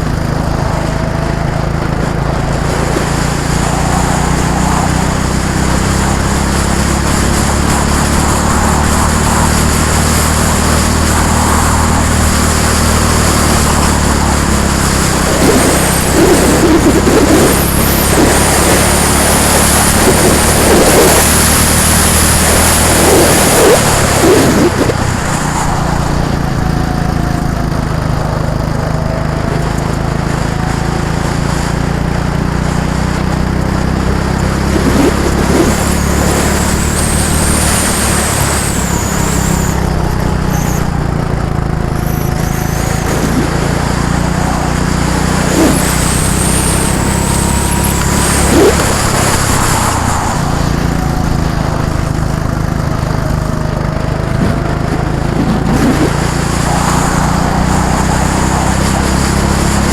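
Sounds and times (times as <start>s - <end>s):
go-kart engines: 0.0s - 59.9s.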